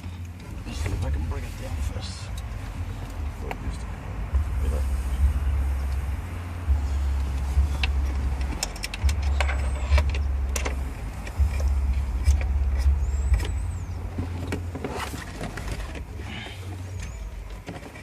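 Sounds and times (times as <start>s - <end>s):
uneven low rumble: 0.5s - 17.6s.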